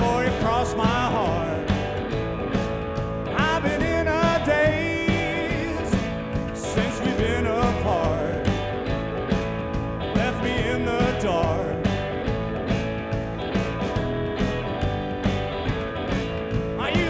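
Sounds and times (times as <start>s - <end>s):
song with singing and beat: 0.0s - 14.0s, 16.1s - 17.0s.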